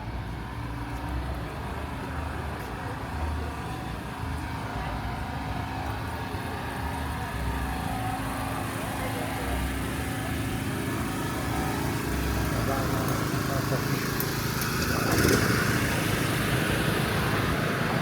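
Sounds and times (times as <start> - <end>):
truck engine idling: 0.0 - 18.0
people talking: 1.5 - 15.9.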